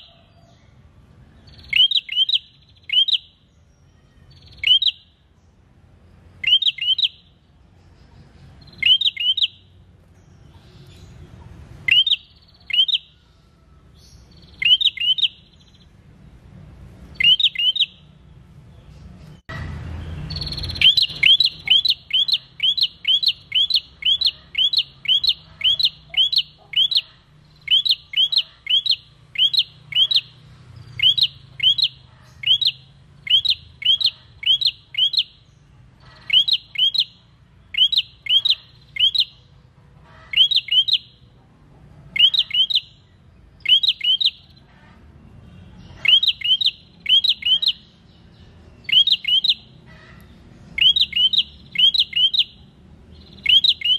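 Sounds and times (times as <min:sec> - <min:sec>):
bird singing sharp chirps: 0:01.4 - 0:05.4, 0:06.4 - 0:13.2, 0:13.9 - 0:16.0, 0:17.1 - 0:39.6, 0:40.3 - 0:41.2, 0:42.2 - 0:44.7, 0:45.6 - 0:53.9.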